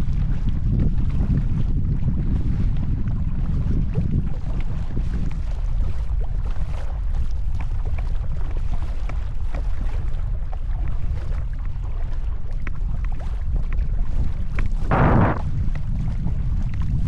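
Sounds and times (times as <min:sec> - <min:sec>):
paddle splashing water: 0:00.0 - 0:17.0
strong wind on microphone: 0:00.0 - 0:17.0.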